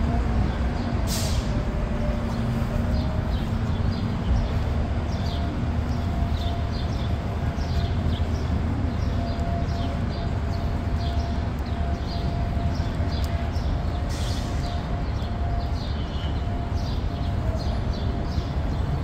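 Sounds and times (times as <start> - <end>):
large vehicle engine rumbling: 0.0 - 19.0.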